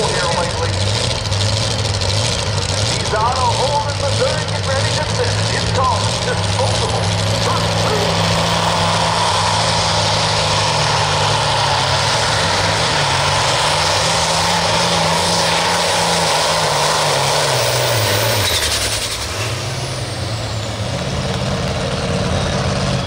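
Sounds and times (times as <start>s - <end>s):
diesel tractor engine under load: 0.0s - 23.0s.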